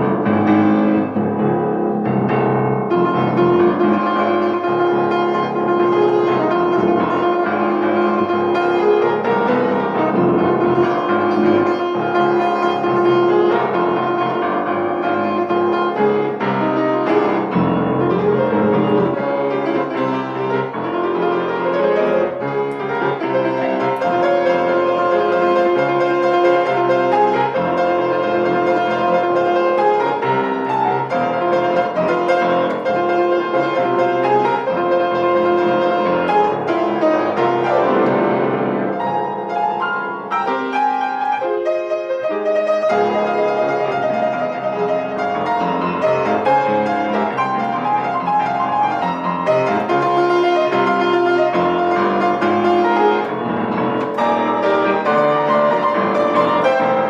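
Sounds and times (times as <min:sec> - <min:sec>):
solo piano pop arrangement: 0:00.0 - 0:57.0.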